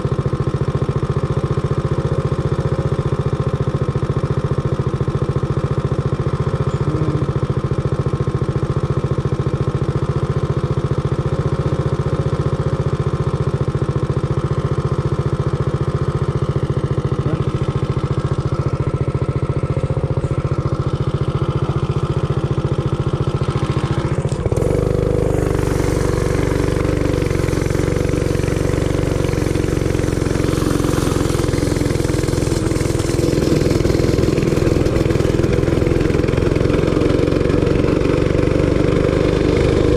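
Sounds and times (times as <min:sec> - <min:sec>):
minibike engine idling and revving: 0:00.0 - 0:39.9.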